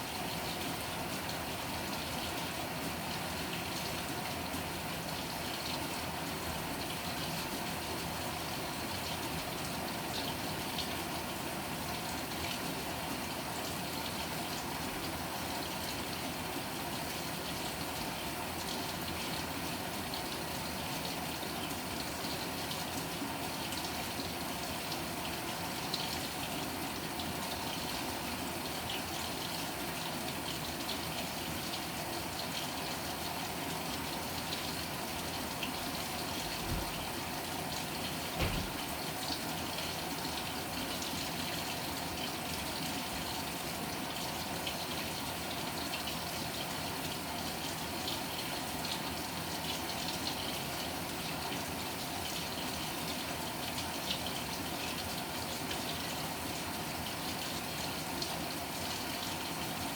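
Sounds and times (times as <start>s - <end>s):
water gushing into washing machine: 0.0s - 59.9s.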